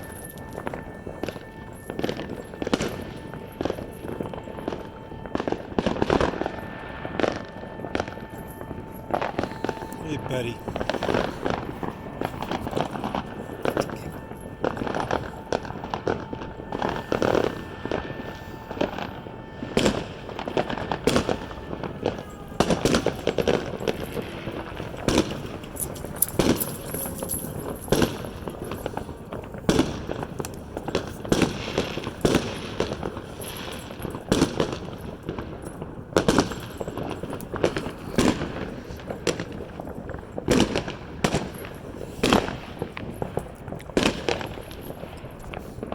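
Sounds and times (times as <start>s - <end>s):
fireworks banging: 0.0s - 45.9s.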